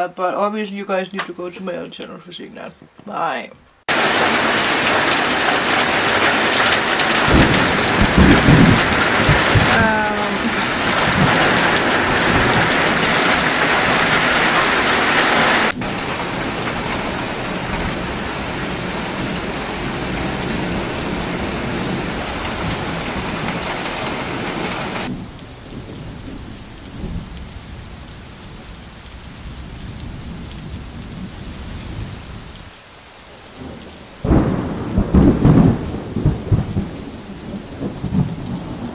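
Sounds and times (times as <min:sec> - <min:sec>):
heavy rain hissing: 0:03.8 - 0:38.9
low rolls of thunder: 0:03.9 - 0:32.5, 0:33.6 - 0:38.9.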